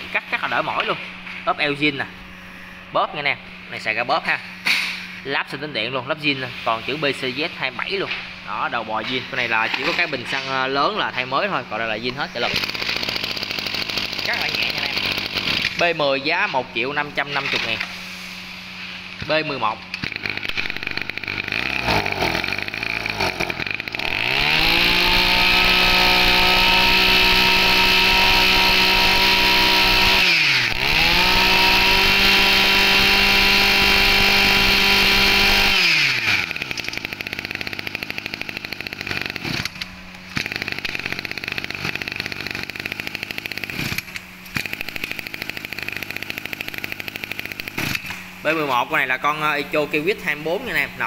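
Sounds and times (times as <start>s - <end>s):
brush cutter engine revving: 7.6s - 51.0s.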